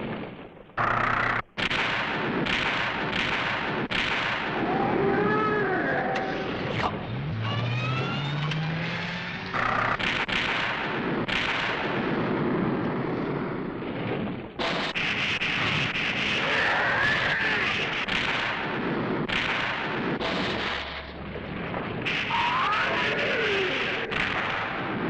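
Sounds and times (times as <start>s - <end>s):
explosion blasts: 0.0s - 25.0s.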